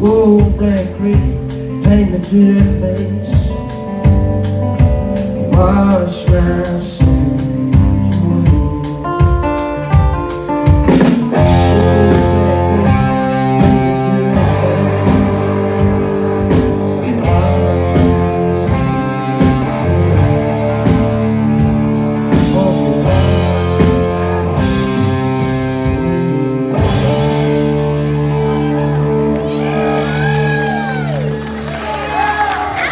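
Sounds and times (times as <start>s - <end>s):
bass guitar: 0.0s - 32.9s
drum kit: 0.0s - 32.9s
electric guitar lead: 0.0s - 32.9s.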